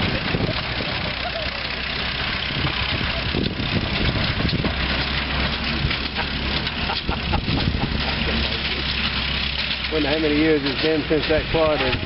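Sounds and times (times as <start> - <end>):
engine knocking: 0.0 - 12.0
truck engine droning: 0.0 - 12.0.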